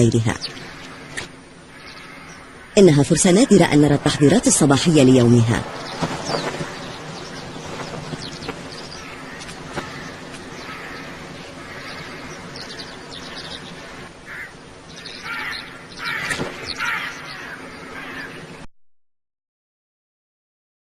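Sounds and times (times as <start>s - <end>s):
harsh bird calls: 0.0s - 18.6s
birds calling: 0.0s - 18.7s
outdoor background: 0.0s - 18.7s.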